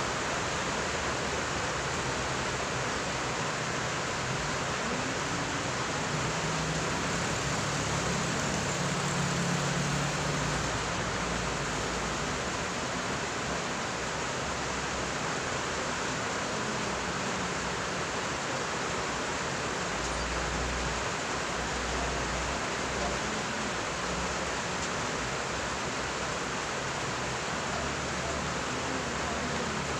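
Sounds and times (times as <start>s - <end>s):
steady background hiss: 0.0s - 29.9s.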